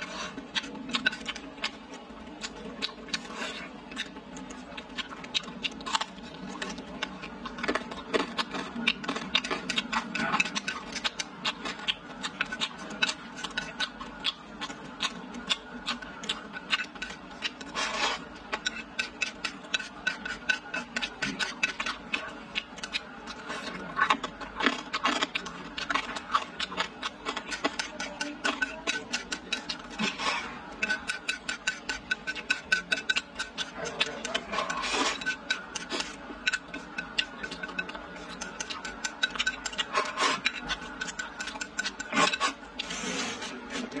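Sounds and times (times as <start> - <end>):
chopsticks scraping a bowl: 0.0 - 1.8, 2.4 - 44.0
chewing and mouth noises: 0.0 - 44.0.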